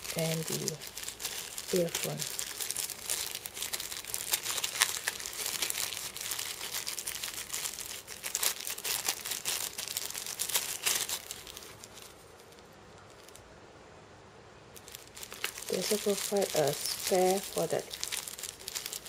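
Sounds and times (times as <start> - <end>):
plastic bag crinkling: 0.0 - 13.5, 14.7 - 19.0.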